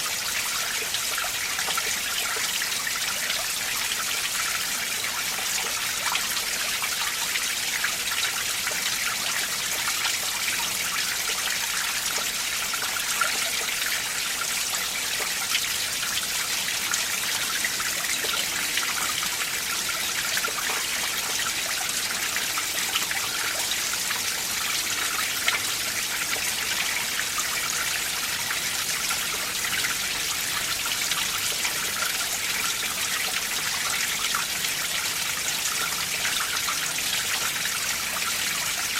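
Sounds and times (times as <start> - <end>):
stream water over rocks: 0.0 - 38.9.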